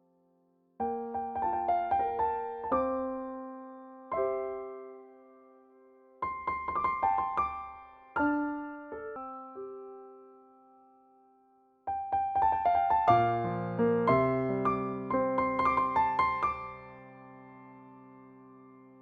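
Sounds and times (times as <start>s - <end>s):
electric piano playing: 0.8s - 11.3s, 11.9s - 19.0s.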